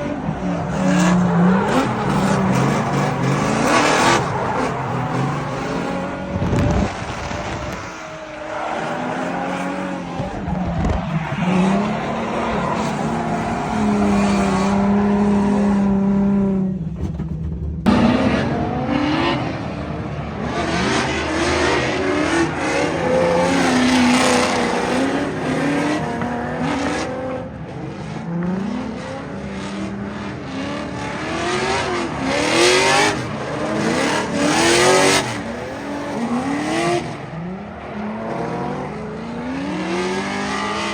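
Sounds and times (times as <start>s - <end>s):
car engine revving hard: 0.0s - 16.8s, 17.8s - 27.5s, 28.1s - 40.9s.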